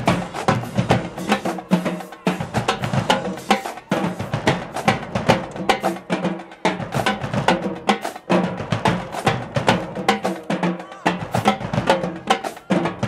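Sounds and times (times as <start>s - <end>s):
marching drumline cadence: 0.0s - 13.0s.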